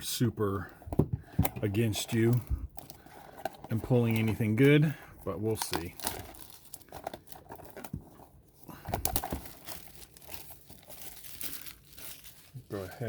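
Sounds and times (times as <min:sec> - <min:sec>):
plastic wrap and cardboard rustling: 0:00.1 - 0:13.0.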